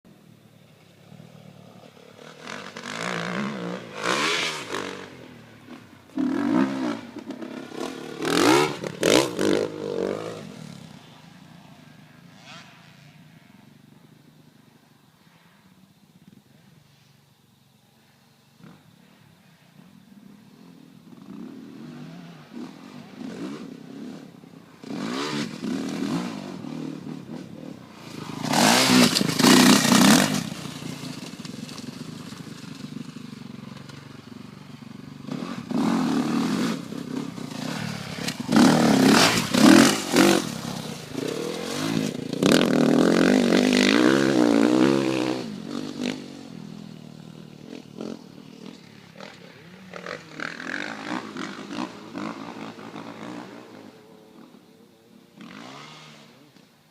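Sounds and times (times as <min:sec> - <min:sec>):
motocross bike engine revving: 0:01.5 - 0:13.6, 0:21.1 - 0:54.5, 0:55.4 - 0:56.6.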